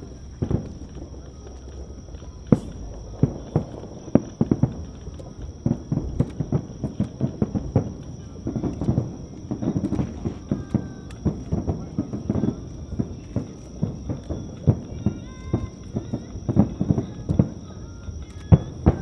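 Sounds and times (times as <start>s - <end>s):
fireworks shells bursting: 0.0s - 19.0s.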